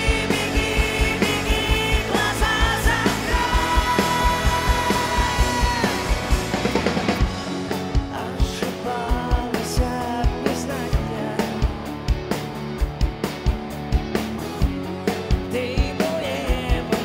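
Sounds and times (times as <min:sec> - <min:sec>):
live pop-rock band: 0:00.0 - 0:17.0.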